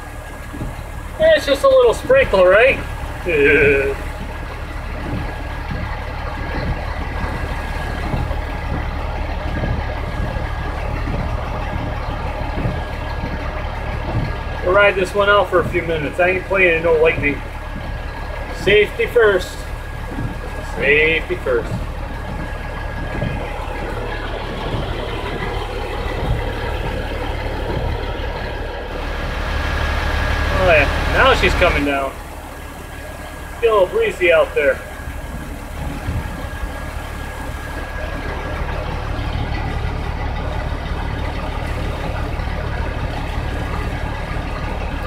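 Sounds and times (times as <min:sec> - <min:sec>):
rain on windshield: 0:00.0 - 0:45.0
truck engine idling: 0:00.0 - 0:45.0.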